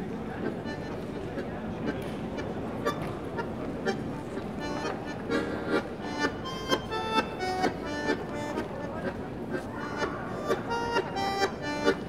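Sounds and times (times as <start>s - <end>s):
button accordion tango melody: 0.3s - 12.0s.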